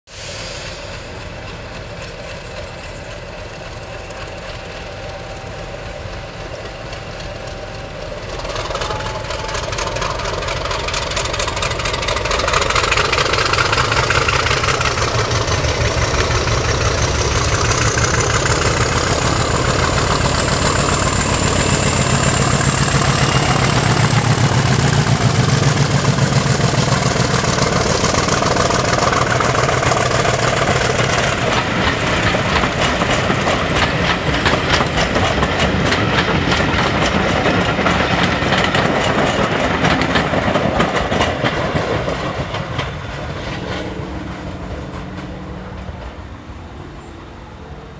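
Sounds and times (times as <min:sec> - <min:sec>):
diesel locomotive engine: 0:00.1 - 0:47.9.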